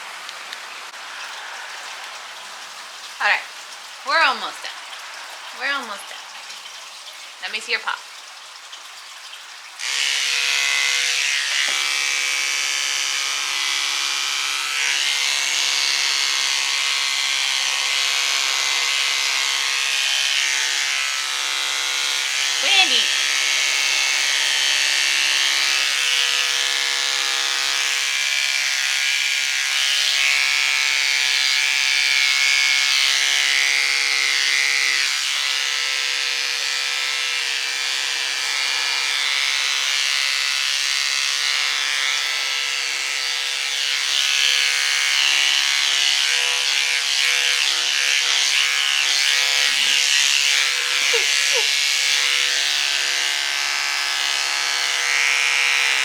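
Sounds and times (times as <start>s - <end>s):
electric hair clippers buzzing: 9.8s - 56.0s.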